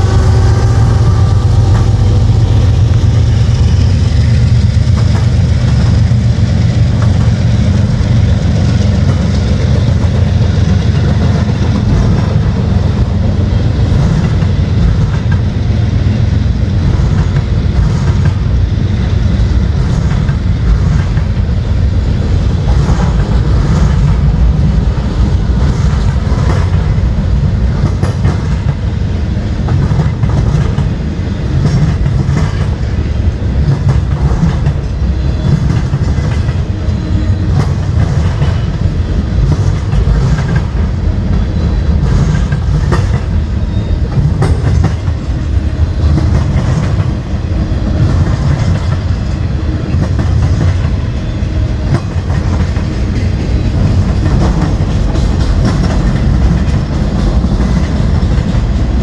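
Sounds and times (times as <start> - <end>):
freight train rumbling past: 0.0 - 59.0
wheels clacking over rail joints: 0.0 - 59.0.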